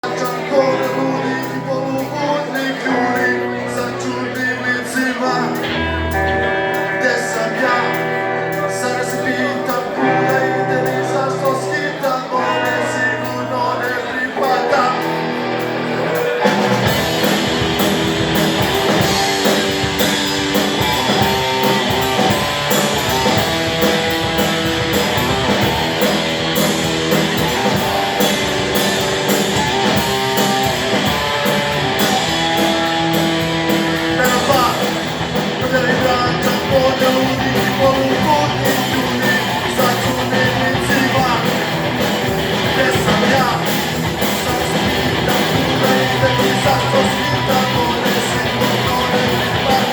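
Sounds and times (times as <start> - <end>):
bass and drums: 0.0 - 49.9
electric guitar chords: 0.0 - 49.9.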